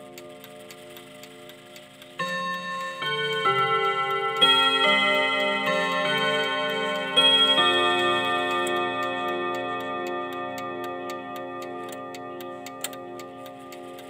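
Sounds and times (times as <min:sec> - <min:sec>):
clock chime tune: 0:00.0 - 0:14.0
clock ticking: 0:00.0 - 0:14.0.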